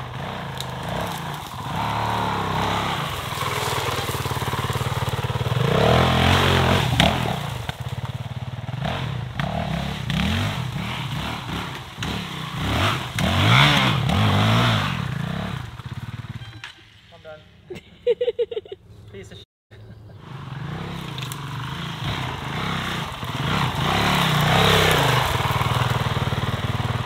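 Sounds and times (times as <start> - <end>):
dirt bike engine revving: 0.0 - 16.7, 20.1 - 27.0.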